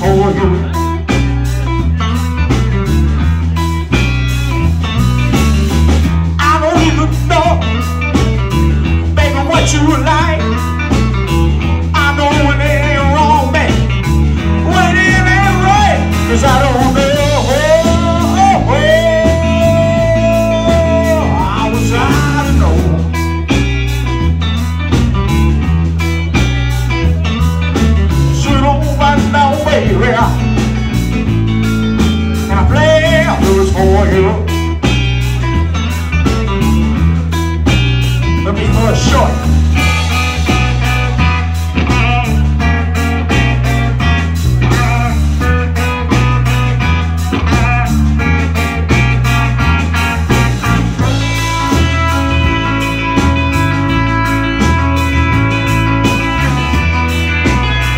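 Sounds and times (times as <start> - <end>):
bass line: 0.0 - 57.9
drums: 0.0 - 57.9
electric guitar blues solo: 0.0 - 57.9.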